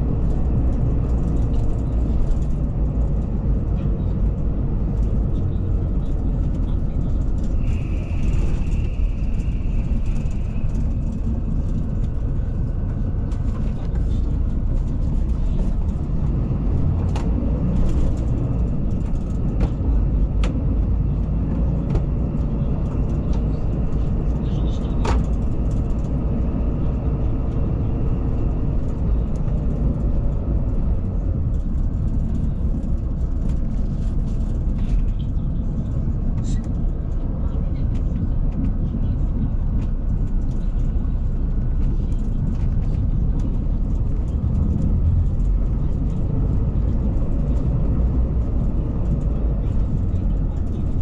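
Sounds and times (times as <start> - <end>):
bus engine and road rumble: 0.0 - 51.0.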